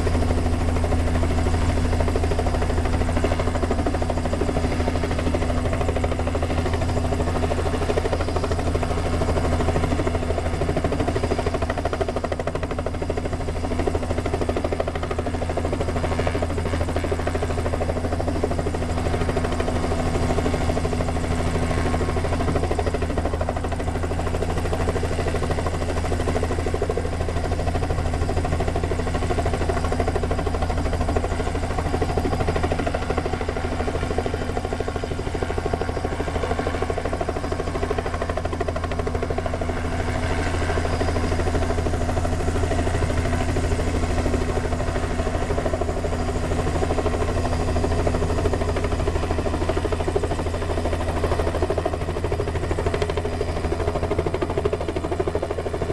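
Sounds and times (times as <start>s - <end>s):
helicopter rotor and engine: 0.0s - 55.9s.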